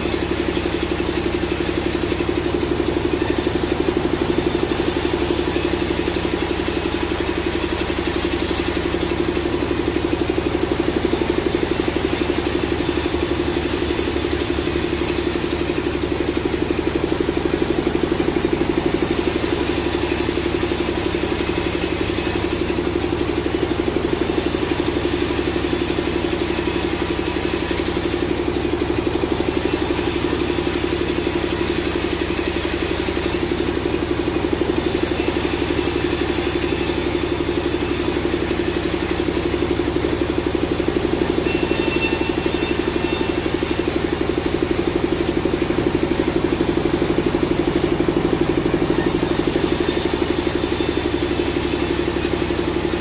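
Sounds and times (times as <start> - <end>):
sawmill machinery humming: 0.0 - 53.0.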